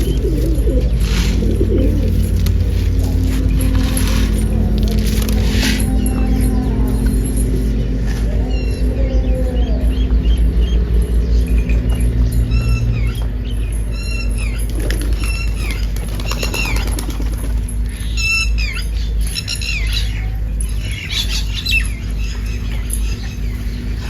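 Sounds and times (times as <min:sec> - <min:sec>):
birds harsh calls: 0:00.0 - 0:24.0
steady low rumble: 0:00.0 - 0:24.0.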